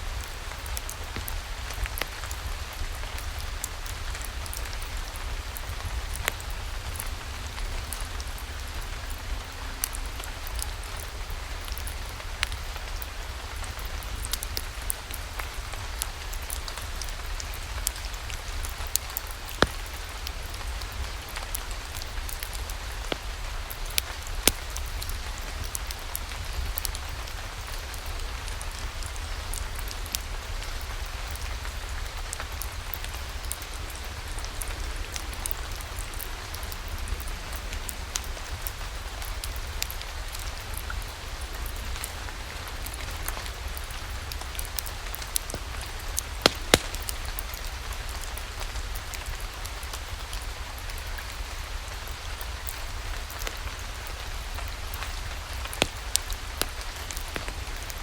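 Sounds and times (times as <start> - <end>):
rain ticks and pops: 0.0 - 58.0
steady rainfall: 0.0 - 58.0.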